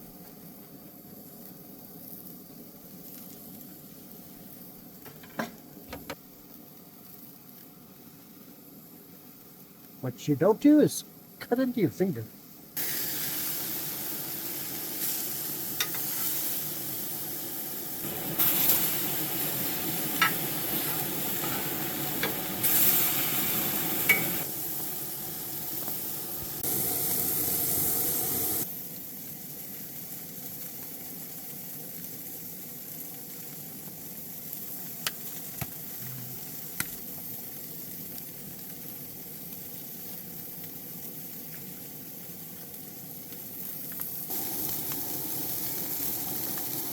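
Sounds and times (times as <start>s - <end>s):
burgers sizzling: 0.0s - 46.9s.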